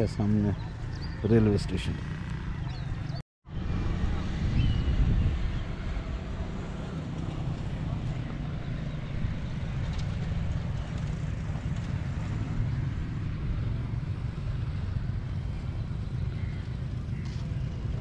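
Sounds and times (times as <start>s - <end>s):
wind buffeting microphone: 2.7s - 18.0s.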